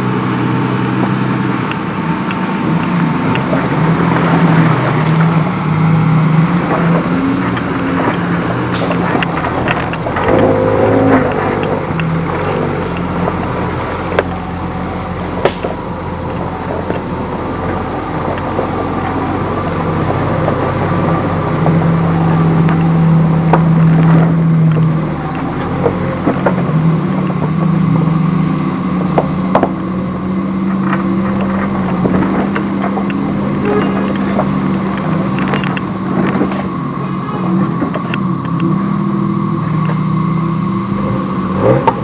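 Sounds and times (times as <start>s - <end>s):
car engine running at low speed: 0.0s - 42.0s.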